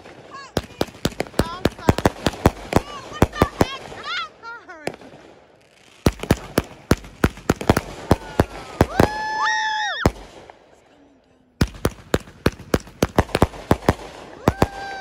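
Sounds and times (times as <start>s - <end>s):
firework bangs and pops: 0.0s - 10.7s, 11.6s - 15.0s.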